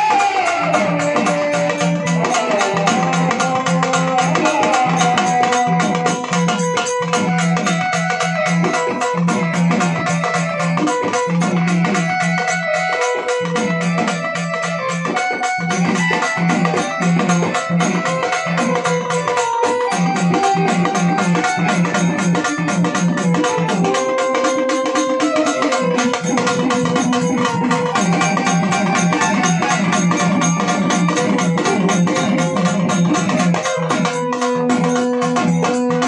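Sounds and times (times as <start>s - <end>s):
hand-beaten frame drum: 0.0s - 36.0s
sustained keyboard melody: 0.0s - 36.0s.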